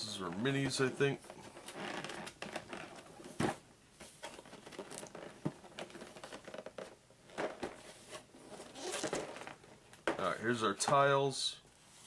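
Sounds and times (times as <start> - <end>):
cardboard and plastic rustling: 0.3 - 11.1.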